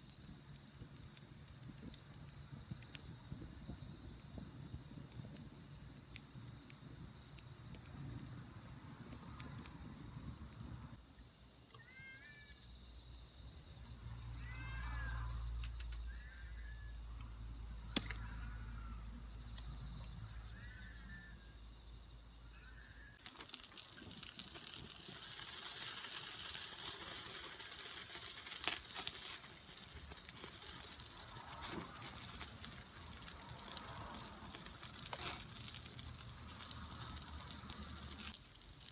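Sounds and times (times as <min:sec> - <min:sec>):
campfire hissing and crackling: 0:00.0 - 0:38.9
crickets trilling: 0:00.0 - 0:38.9.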